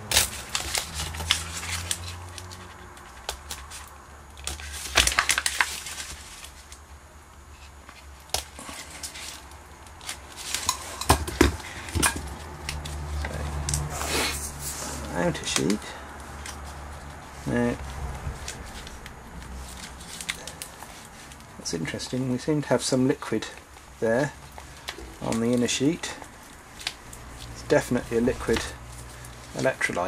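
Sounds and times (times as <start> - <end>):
foil pouch crinkling: 0.0 - 6.8, 11.6 - 30.0.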